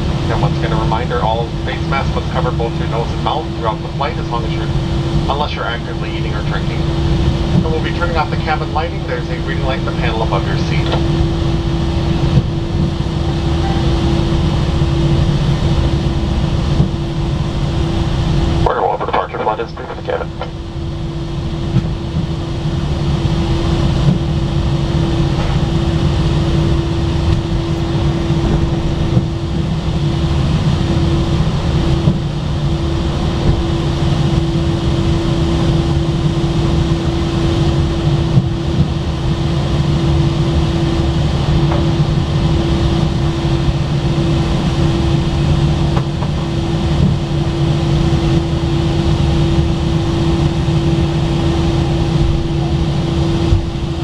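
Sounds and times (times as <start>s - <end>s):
aircraft engines rumbling: 0.0s - 54.0s
constant cabin hum: 0.0s - 54.0s.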